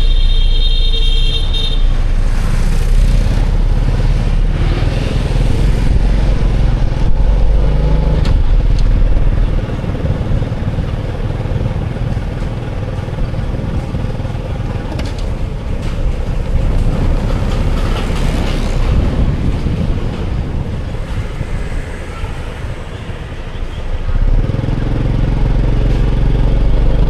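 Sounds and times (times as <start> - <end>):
motorbike engines passing: 0.0 - 27.0
road traffic rumble: 0.0 - 27.0.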